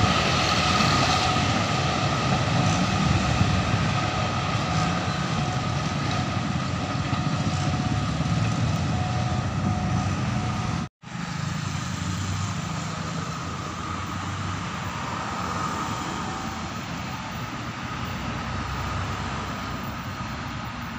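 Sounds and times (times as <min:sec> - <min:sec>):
road traffic: 0:00.0 - 0:20.9.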